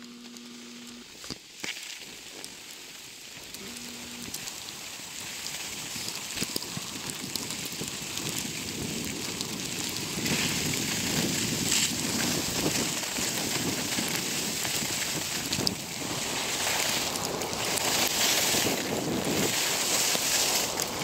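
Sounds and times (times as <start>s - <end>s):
skis scraping over snow: 0.0s - 21.0s.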